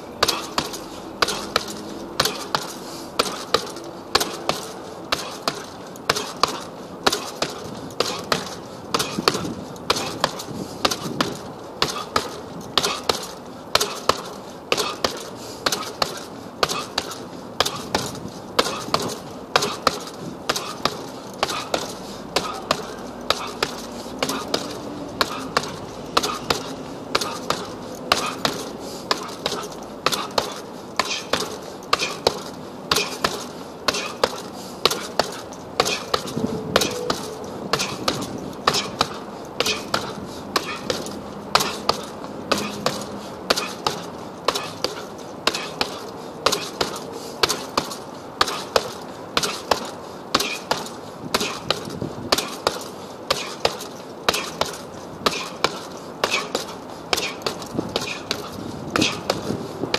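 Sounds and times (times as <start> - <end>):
punches thudding on punching bag: 0.2 - 59.9.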